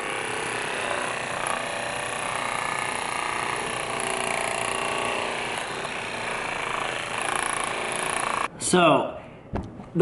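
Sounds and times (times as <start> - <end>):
massage gun motor hum: 0.0 - 8.5.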